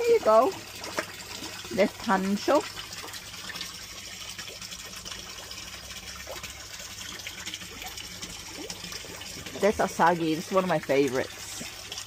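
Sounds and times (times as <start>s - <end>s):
fish splashing at surface: 0.0s - 10.5s
water pouring into pond: 0.0s - 12.0s.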